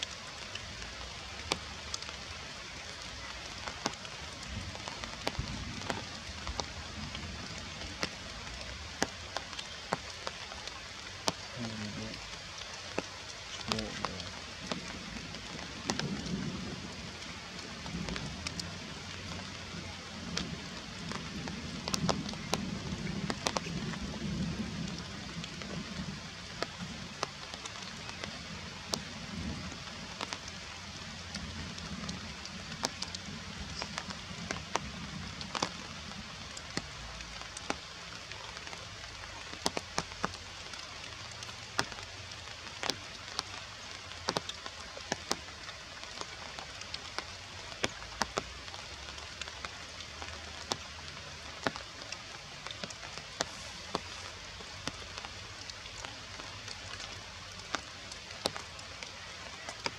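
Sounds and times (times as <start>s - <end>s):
rain falling through trees: 0.0s - 59.9s
raindrops ticking nearby: 0.0s - 59.9s.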